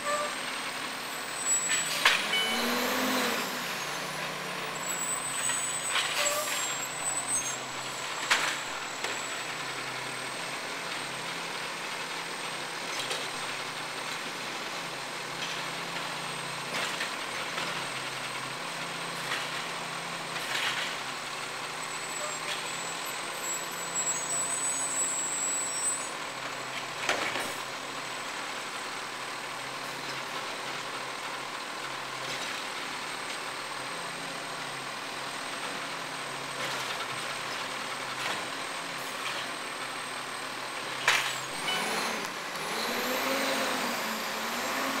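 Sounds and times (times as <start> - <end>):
diesel engine running: 0.0 - 45.0
truck driving off: 0.0 - 45.0.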